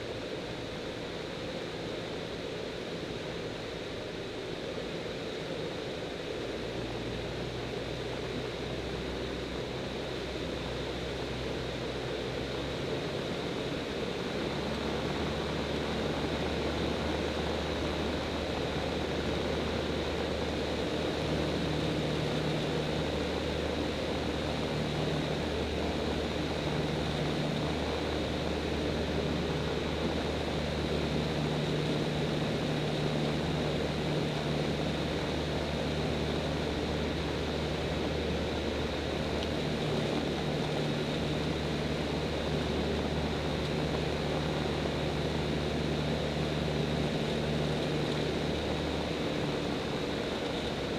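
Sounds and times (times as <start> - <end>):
aircraft engine and propeller drone: 0.0 - 50.9.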